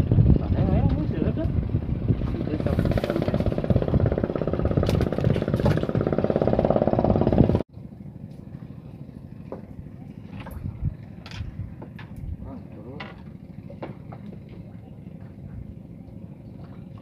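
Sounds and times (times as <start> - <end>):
engine running with rapid pulse: 0.0 - 17.0.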